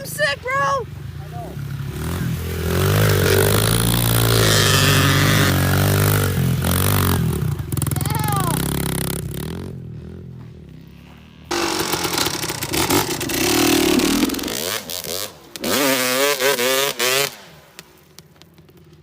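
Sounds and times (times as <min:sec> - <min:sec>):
pit bike engine revving: 0:00.0 - 0:17.6.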